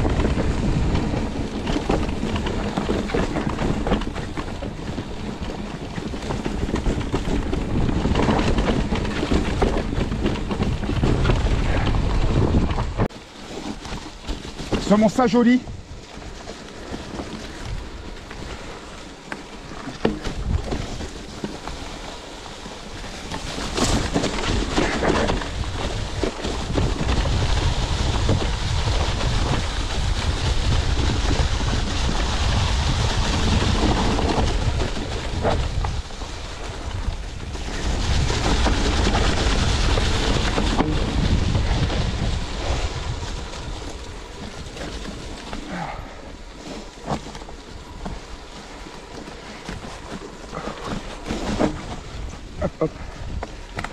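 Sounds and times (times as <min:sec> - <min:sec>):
tyres rolling over dry leaves: 0:00.0 - 0:53.9
wind buffeting microphone: 0:00.0 - 0:53.9.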